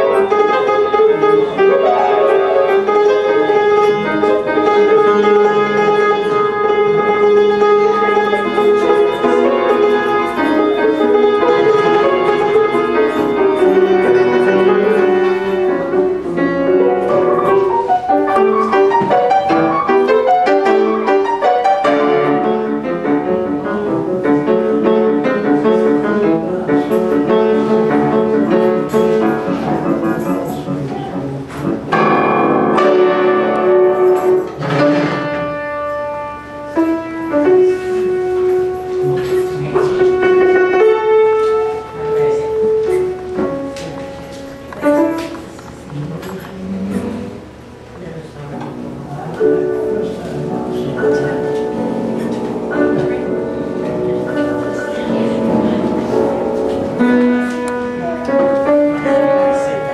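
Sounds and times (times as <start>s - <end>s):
grand piano playing fast runs: 0.0s - 59.9s
loud piano chords: 0.0s - 59.9s.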